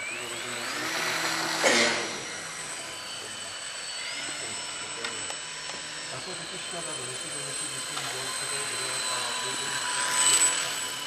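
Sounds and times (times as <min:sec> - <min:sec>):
model plane motor whining: 0:00.0 - 0:11.0.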